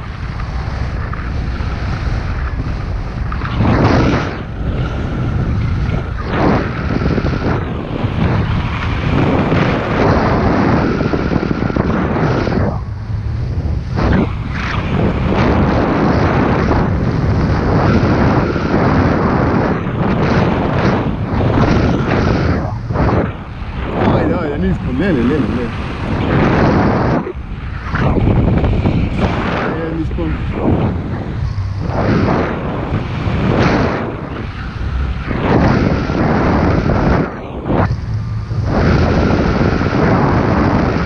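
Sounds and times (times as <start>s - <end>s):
gusty wind rush on microphone: 0.0s - 41.0s.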